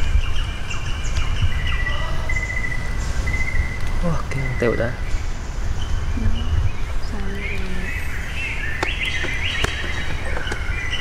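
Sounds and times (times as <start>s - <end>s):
low rumble: 0.0s - 8.8s
birds chirping: 0.0s - 11.0s.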